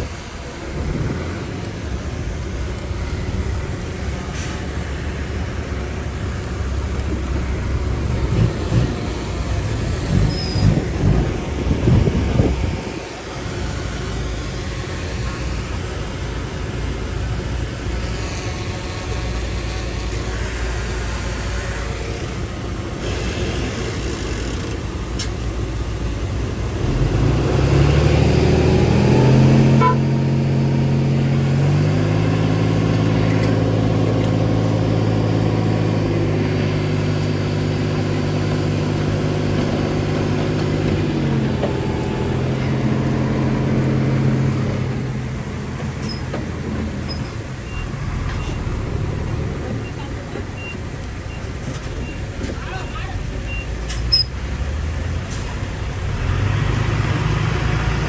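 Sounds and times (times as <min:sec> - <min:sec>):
heavy diesel engine revving: 0:00.0 - 0:58.0.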